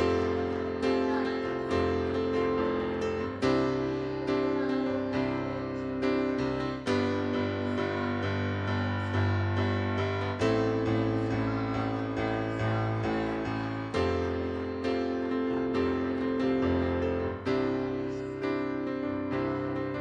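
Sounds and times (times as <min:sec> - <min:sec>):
keyboard playing sustained chords: 0:00.0 - 0:20.0.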